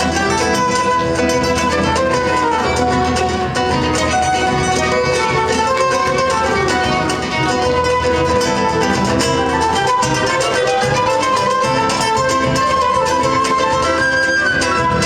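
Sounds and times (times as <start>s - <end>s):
bowed string melody: 0.0s - 15.0s
plucked strings: 0.0s - 15.0s.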